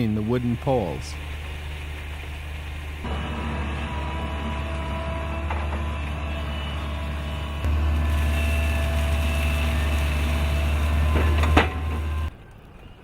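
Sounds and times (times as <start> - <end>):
heavy machinery engine running: 0.0 - 12.3.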